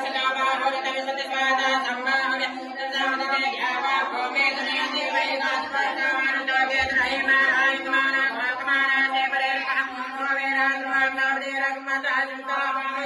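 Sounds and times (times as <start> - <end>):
mantras chanted aloud: 0.0 - 13.0.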